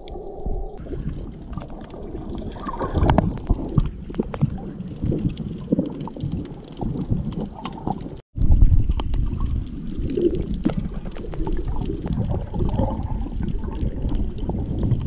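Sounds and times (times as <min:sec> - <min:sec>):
underwater clicks and crackles: 0:00.0 - 0:15.0
underwater rumble of water: 0:00.0 - 0:15.0.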